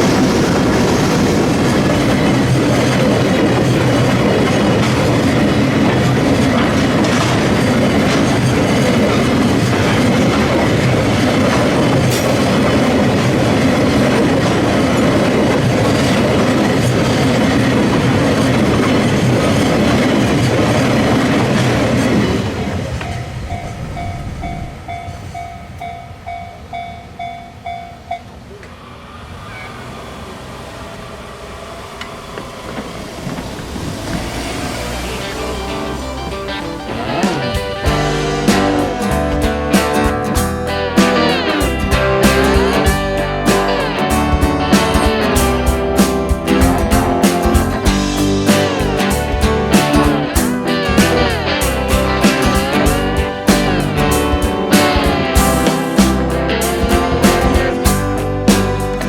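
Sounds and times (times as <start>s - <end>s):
crossing warning bell ringing: 0.0s - 28.7s, 34.4s - 59.0s
freight train passing: 0.0s - 59.0s.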